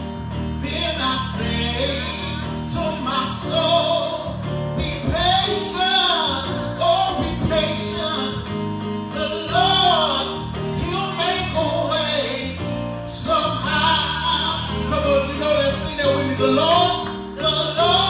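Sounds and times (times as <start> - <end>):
instrumental accompaniment: 0.0 - 18.0
gospel singing: 0.6 - 18.0.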